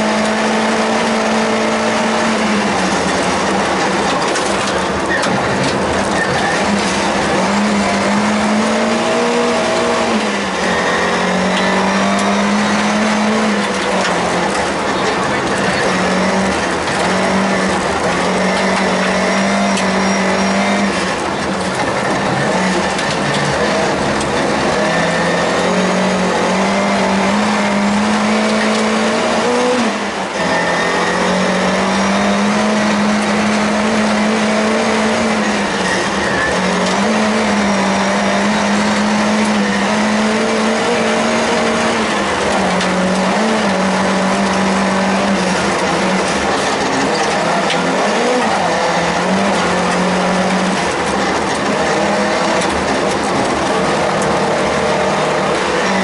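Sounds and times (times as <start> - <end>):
car engine revving high: 0.0 - 56.0
tyre and road noise: 0.0 - 56.0.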